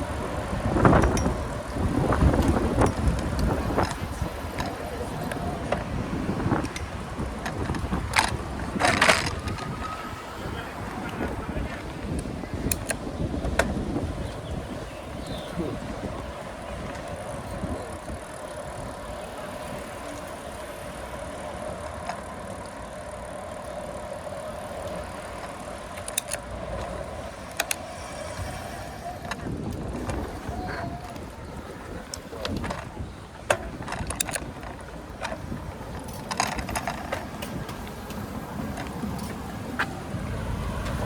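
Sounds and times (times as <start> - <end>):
bicycle rolling: 0.0 - 41.0
road and wind rumble: 0.0 - 41.0.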